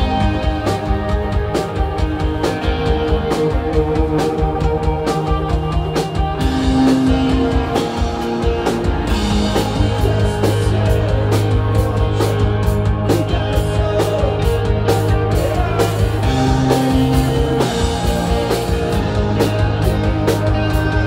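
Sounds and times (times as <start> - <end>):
electric guitar notes: 0.0 - 21.0
steady drumming: 0.0 - 21.0.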